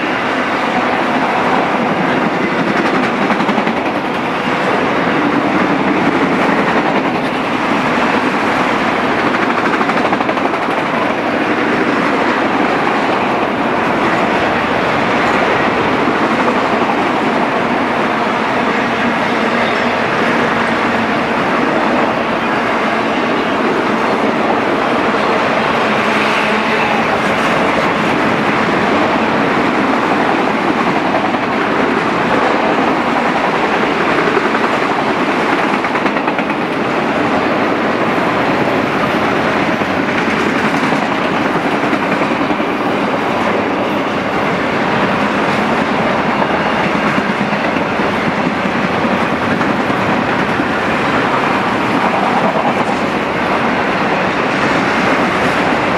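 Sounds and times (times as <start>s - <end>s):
freight cars rolling on rails: 0.0s - 55.9s.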